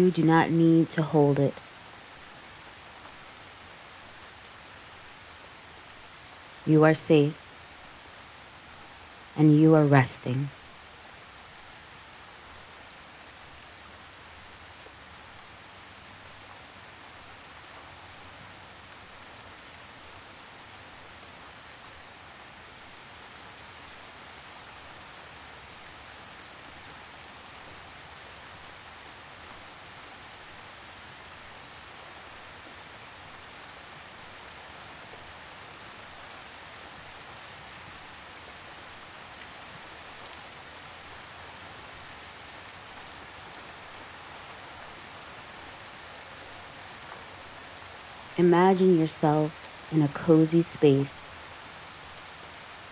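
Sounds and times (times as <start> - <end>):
light rain hissing: 0.0 - 52.9.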